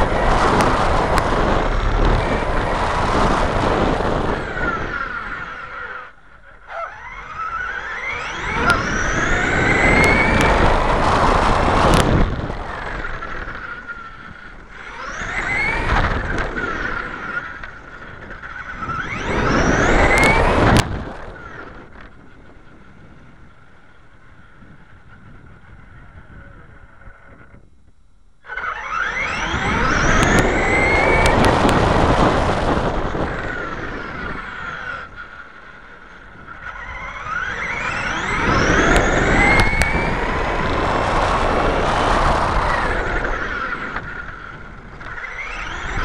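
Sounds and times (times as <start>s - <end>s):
electric motor whining: 0.0s - 27.6s, 28.4s - 46.0s
tyre and wind noise: 0.0s - 46.0s.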